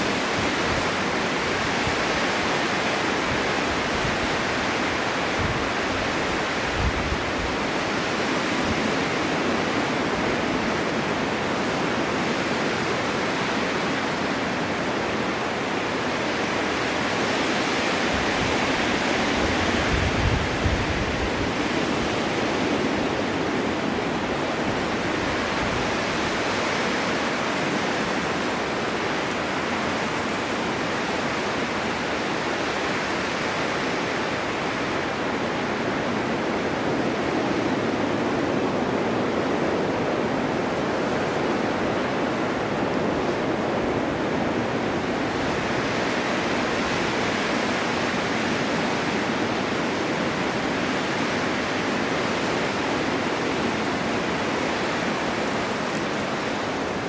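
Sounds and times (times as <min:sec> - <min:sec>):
wind blowing in gusts: 0:00.0 - 0:57.0.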